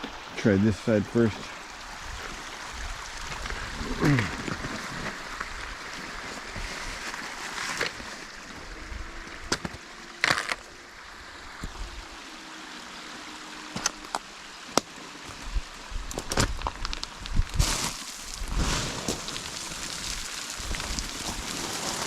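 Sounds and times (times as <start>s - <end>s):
creek and waterfall rushing: 0.0s - 16.7s, 17.9s - 22.0s.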